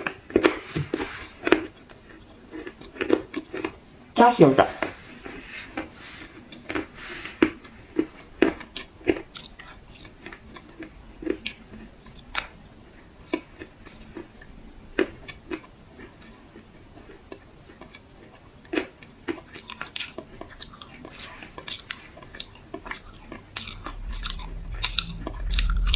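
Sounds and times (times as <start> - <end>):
dry clay crunching when chewed: 0.0 - 4.1, 4.8 - 25.9.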